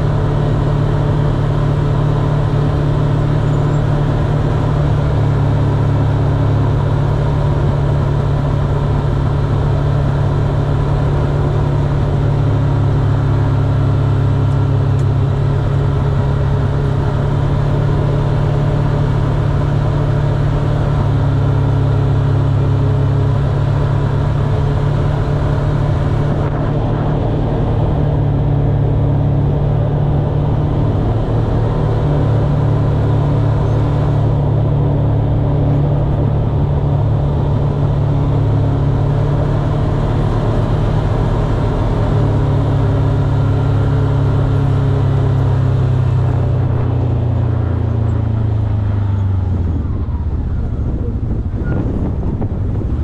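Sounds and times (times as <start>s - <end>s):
low vehicle rumble: 0.0s - 53.0s.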